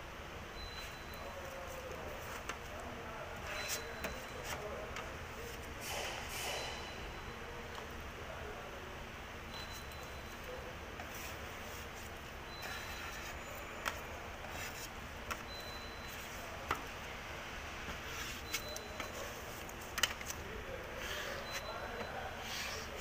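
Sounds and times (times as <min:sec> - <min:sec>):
workshop background noise: 0:00.0 - 0:23.0.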